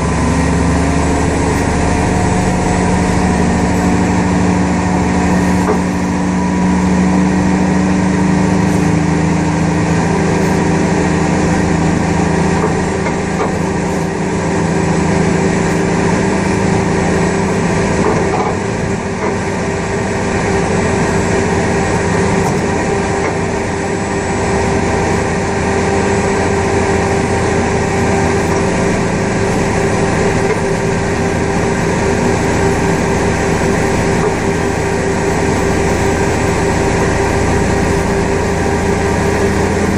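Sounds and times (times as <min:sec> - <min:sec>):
aircraft machinery drone: 0:00.0 - 0:39.9.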